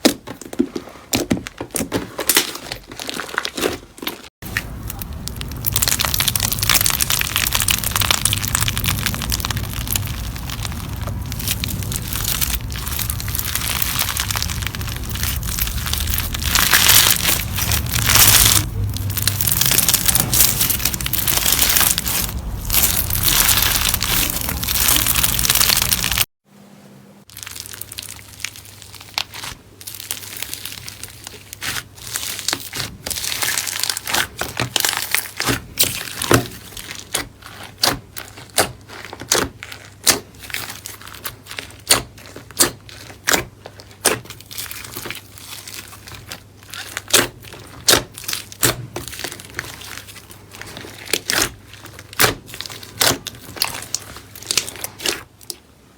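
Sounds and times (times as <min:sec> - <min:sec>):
air pockets popping in slime: 0:04.5 - 0:26.3, 0:27.3 - 0:55.5
slime squeezed by hand crackling: 0:04.5 - 0:26.3, 0:27.3 - 0:55.6.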